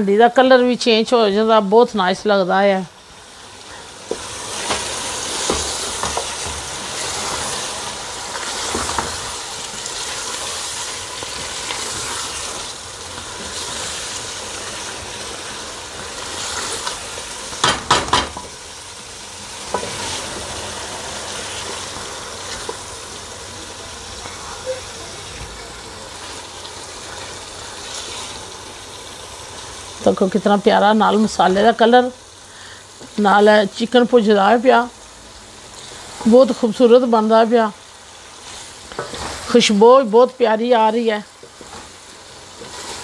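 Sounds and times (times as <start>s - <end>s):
food sizzling in a pot: 0.0s - 43.0s.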